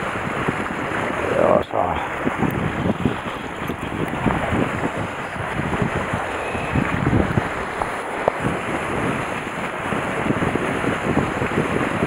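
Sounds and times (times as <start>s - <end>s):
waves splashing against concrete: 0.0s - 12.0s
wind buffeting microphone: 0.0s - 12.0s.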